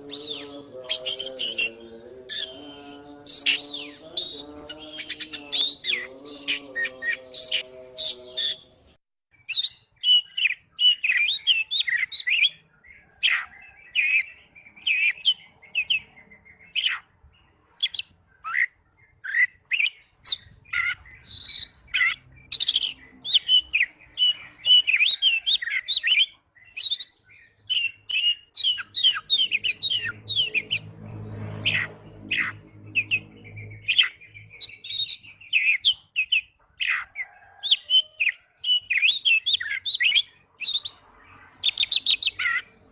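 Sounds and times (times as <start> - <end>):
bird singing whistles and chirps: 0.0 - 8.7, 9.4 - 17.0, 17.8 - 30.9, 31.6 - 41.0, 41.6 - 42.7.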